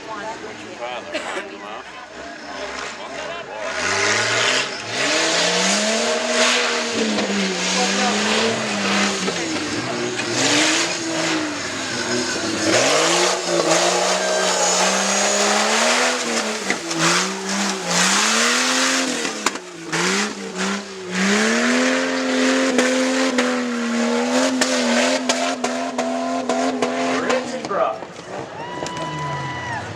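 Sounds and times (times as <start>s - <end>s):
truck engine revving: 2.0s - 27.7s.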